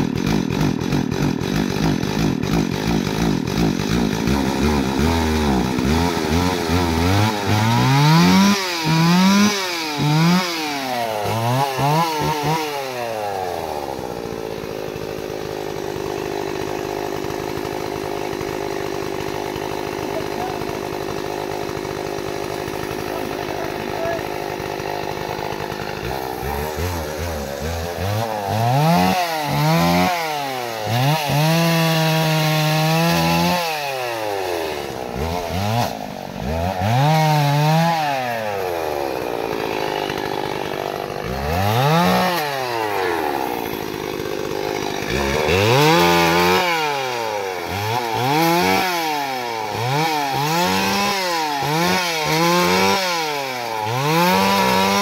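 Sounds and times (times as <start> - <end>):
chainsaw cutting wood: 0.0 - 55.0
chainsaw idling and revving: 0.0 - 55.0.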